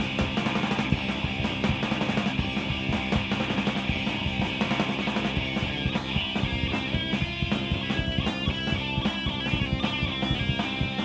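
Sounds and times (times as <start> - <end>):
bass guitar: 0.0 - 11.0
distorted electric guitars: 0.0 - 11.0
fast driving drums: 0.0 - 11.0.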